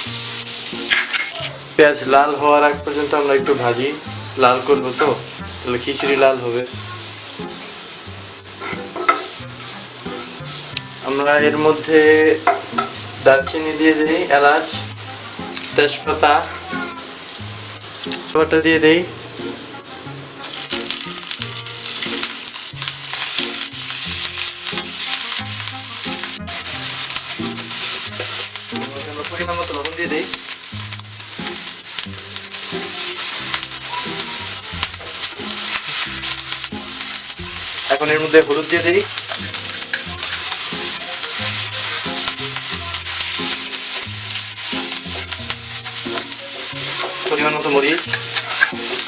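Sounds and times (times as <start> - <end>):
background music: 0.0 - 49.0
food sizzling in hot oil: 0.0 - 49.0.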